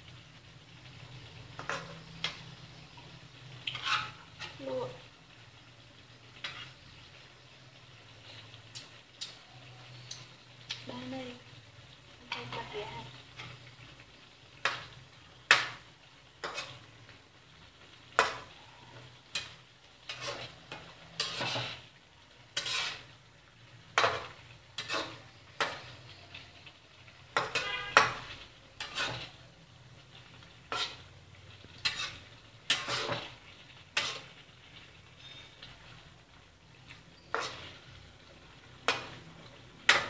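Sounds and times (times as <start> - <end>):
low sizzle: 0.0 - 40.0
metal spatula scraping a wok: 0.9 - 5.0, 6.2 - 8.6, 12.2 - 14.0, 14.6 - 23.3, 23.9 - 40.0.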